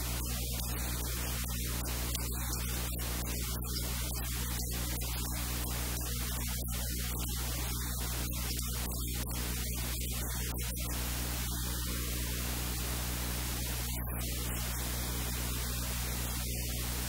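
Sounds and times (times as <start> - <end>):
electrical mains hum: 0.0 - 17.0
static hiss: 0.0 - 17.0.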